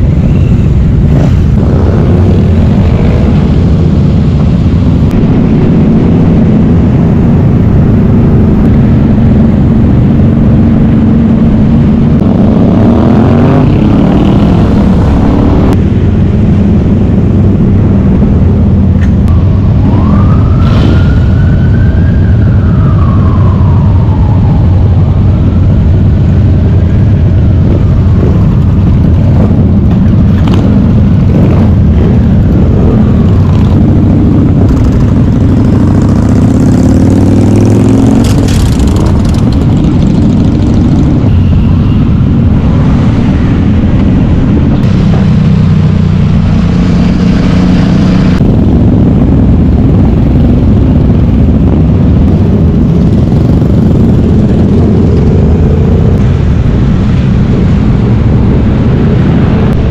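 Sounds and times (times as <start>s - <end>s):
motorcycles revving: 0.0s - 59.9s.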